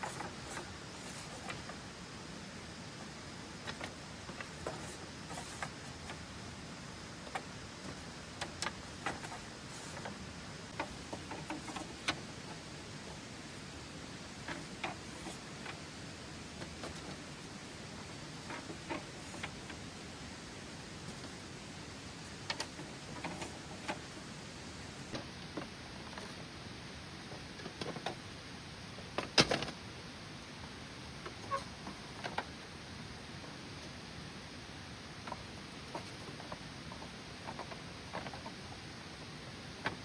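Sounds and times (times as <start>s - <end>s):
steady rain hiss: 0.0s - 40.0s.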